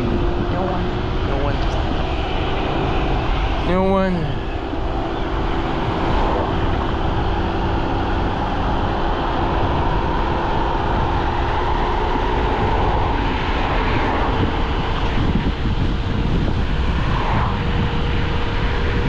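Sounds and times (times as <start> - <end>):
electric scooter motor whine: 0.0 - 19.0
wind rumble on microphone: 0.0 - 19.0.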